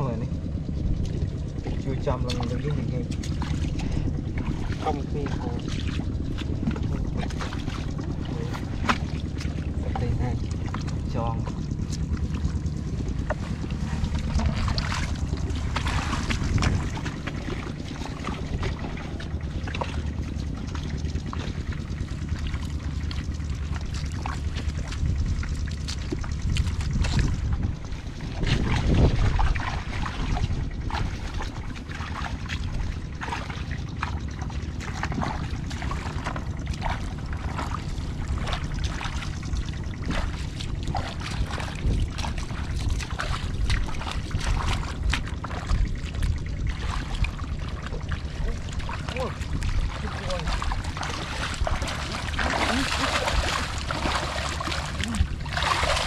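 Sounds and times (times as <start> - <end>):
wind rumbling on microphone: 0.0 - 56.0
feet splashing through mud: 1.0 - 56.0.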